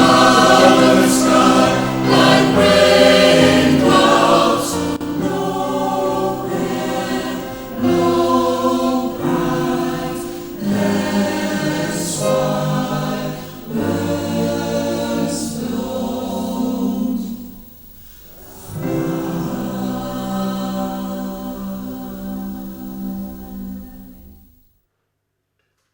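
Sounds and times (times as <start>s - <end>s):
choir singing sustained chords: 0.0s - 24.6s.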